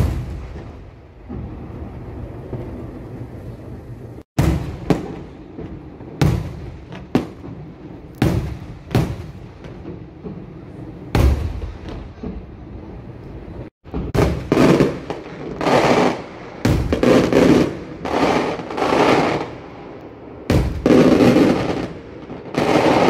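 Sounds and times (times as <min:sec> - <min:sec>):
fireworks bursting with sharp bangs: 0:00.0 - 0:23.0
low rumble and crackle of fireworks: 0:00.0 - 0:23.0.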